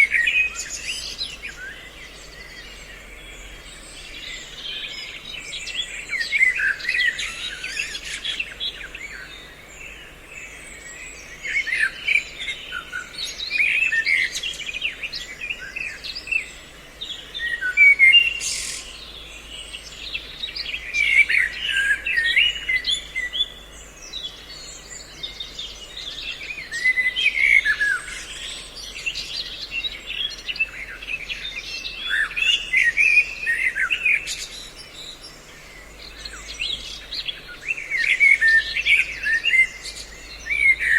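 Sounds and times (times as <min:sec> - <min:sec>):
songbirds chirping and whistling: 0:00.0 - 0:40.9.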